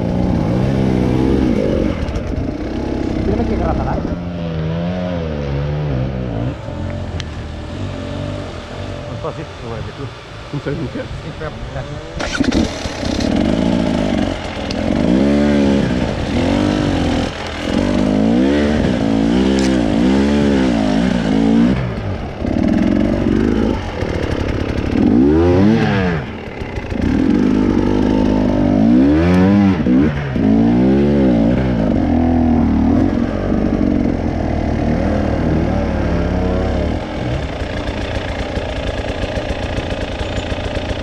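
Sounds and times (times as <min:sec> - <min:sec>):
off-road motorcycle engine revving: 0:00.0 - 0:41.0.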